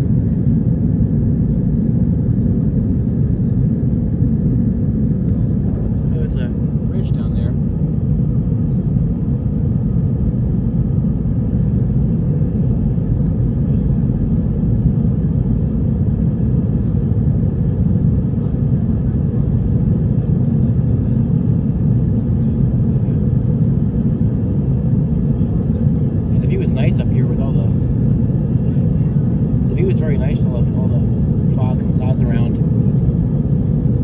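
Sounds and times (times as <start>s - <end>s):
aircraft engine noise: 0.0s - 34.0s.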